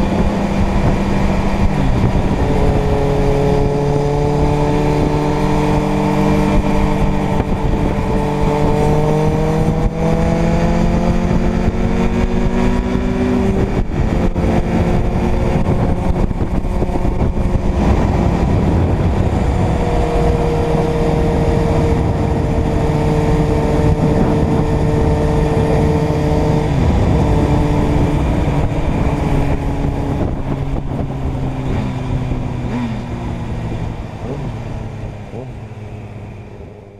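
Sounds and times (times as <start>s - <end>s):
motorcycle engine under way: 0.0s - 36.9s
wind noise: 0.0s - 36.9s.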